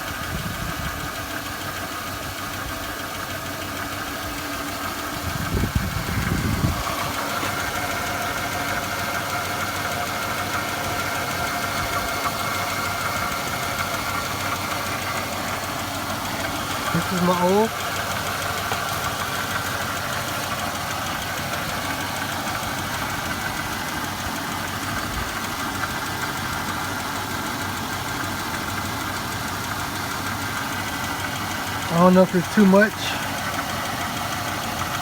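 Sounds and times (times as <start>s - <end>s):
car engine idling roughly: 0.0s - 35.0s.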